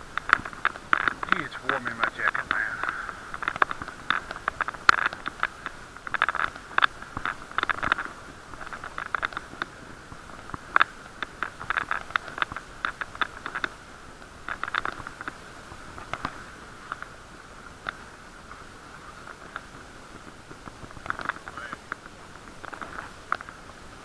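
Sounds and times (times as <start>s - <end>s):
bicycle rattling over road: 0.0s - 24.0s.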